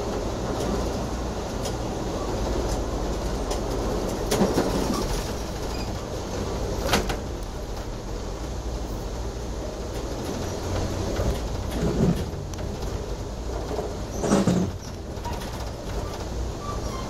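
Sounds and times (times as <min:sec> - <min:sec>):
wheels clicking over rail joints: 0:00.0 - 0:08.7, 0:09.7 - 0:17.0
low rumble of train: 0:00.0 - 0:17.0.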